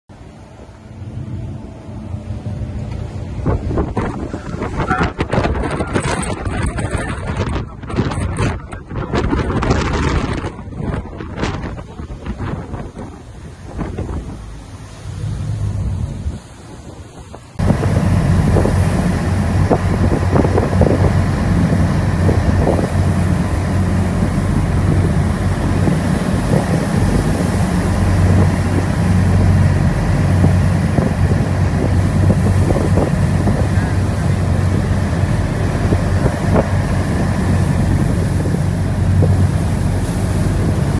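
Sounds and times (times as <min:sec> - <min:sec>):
boat diesel engines humming: 0:00.1 - 0:40.9
rough sea rushing: 0:00.1 - 0:40.9
waves slapping boat: 0:00.1 - 0:40.9
wind buffeting microphone: 0:00.2 - 0:40.9.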